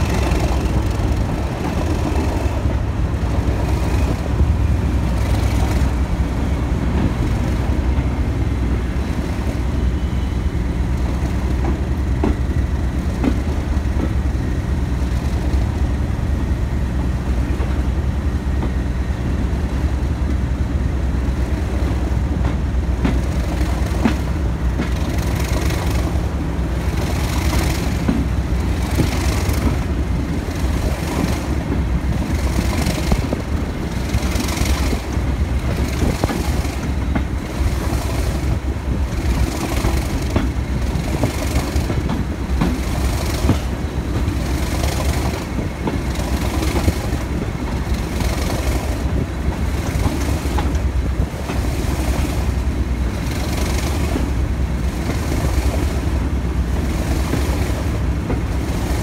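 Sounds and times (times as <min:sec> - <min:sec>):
diesel locomotive engine working hard: 0:00.0 - 0:59.0.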